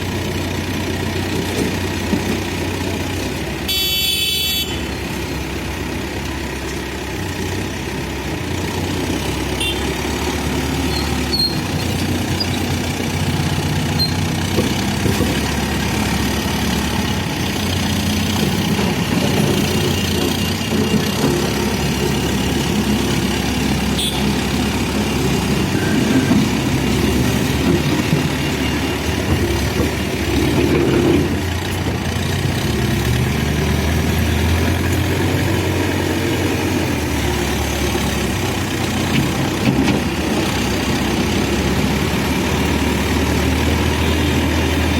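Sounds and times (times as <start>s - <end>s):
backhoe diesel engine running: 0.0s - 44.9s.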